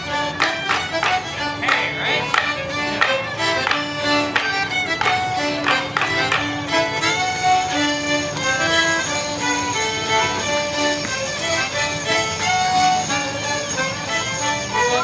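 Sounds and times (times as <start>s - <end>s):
accordion: 0.0s - 15.0s
fiddles: 0.0s - 15.0s
leg bells jingling: 0.0s - 15.0s.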